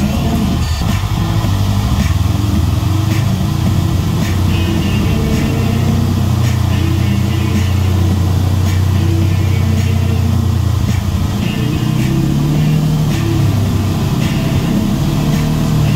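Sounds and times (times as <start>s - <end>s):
off-road vehicle engine running: 0.0s - 15.9s.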